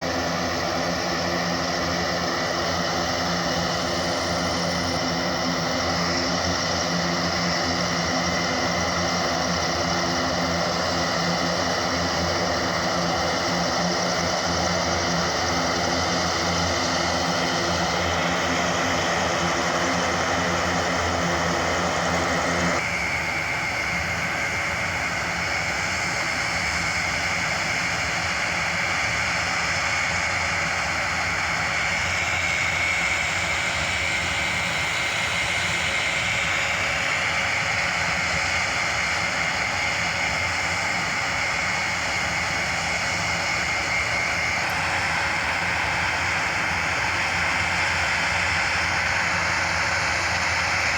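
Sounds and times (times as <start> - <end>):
turboprop engines droning: 0.0 - 50.9.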